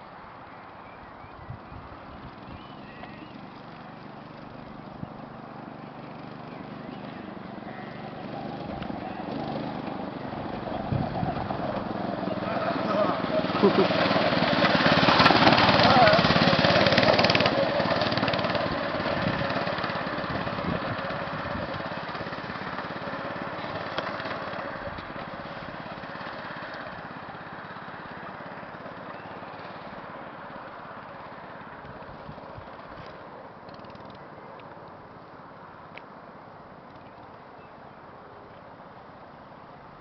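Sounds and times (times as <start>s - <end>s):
go-kart engine running: 1.8s - 34.4s.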